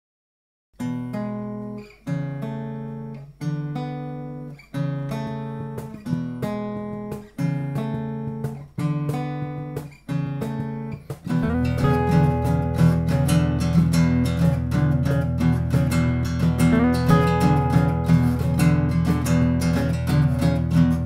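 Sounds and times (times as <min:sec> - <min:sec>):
acoustic guitar strumming chords: 0:00.8 - 0:21.0.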